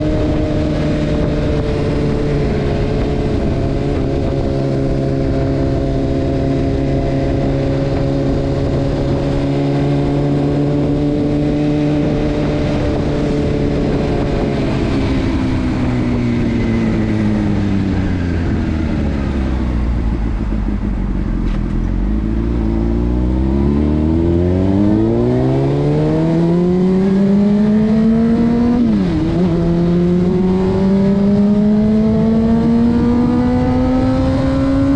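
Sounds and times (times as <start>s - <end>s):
motorcycle engine: 0.0s - 34.9s.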